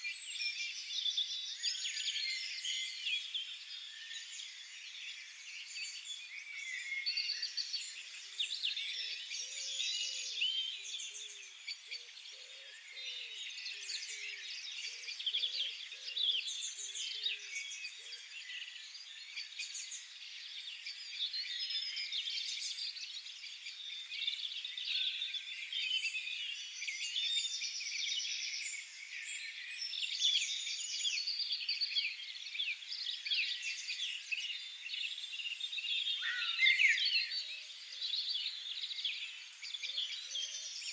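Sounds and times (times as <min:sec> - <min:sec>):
chorus of songbirds singing: 0:00.0 - 0:40.9.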